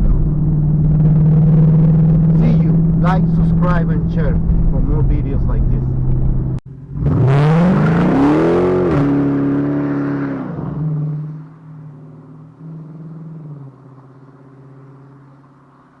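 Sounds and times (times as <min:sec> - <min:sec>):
car engine revving down to idle: 0:00.0 - 0:15.8.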